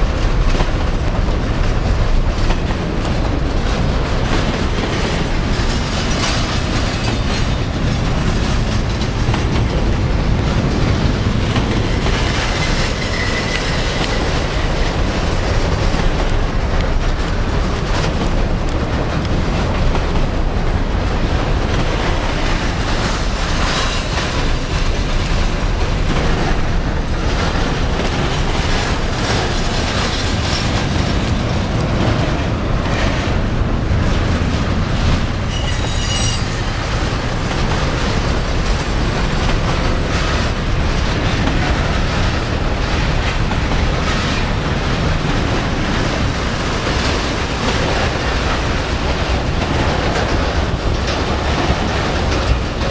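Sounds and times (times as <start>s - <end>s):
freight train wheels rumbling: 0.0s - 52.9s.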